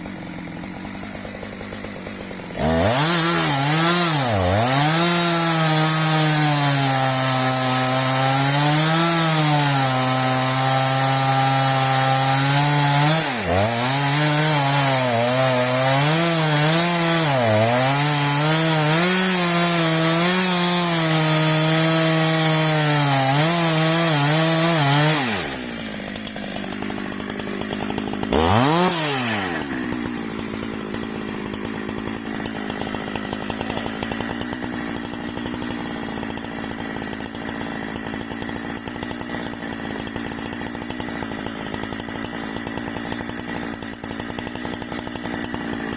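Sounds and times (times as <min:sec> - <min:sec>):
chainsaw cutting log: 0:00.0 - 0:45.9.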